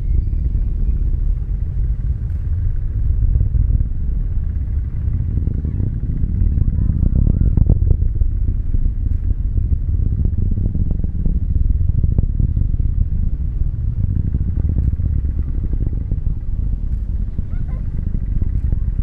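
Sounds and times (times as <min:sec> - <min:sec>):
distant rocket engine rumble: 0:00.0 - 0:19.0.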